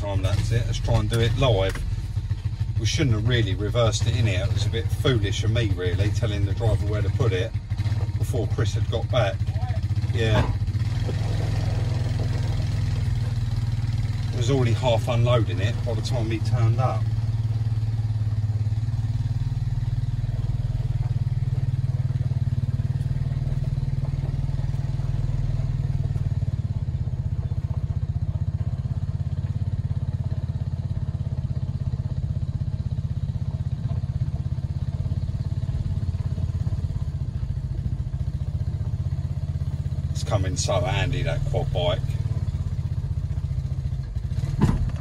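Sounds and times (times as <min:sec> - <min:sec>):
quad bike engine humming: 0:00.0 - 0:45.0.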